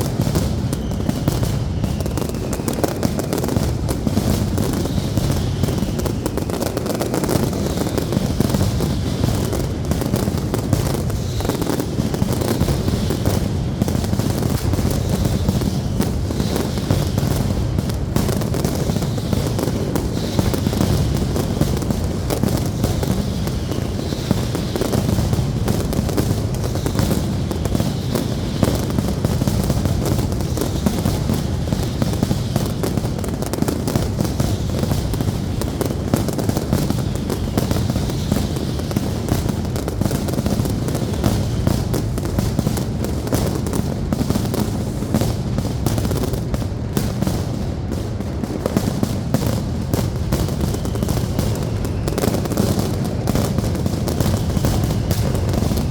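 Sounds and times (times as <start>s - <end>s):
faint firework whistles: 0.0s - 55.9s
fireworks bangs and crackling: 0.0s - 55.9s.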